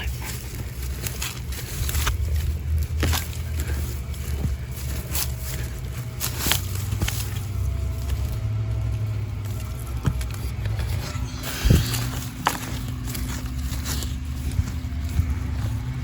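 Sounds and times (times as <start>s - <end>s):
hands rummaging through compost: 0.0s - 16.0s
low rumble: 0.0s - 16.0s.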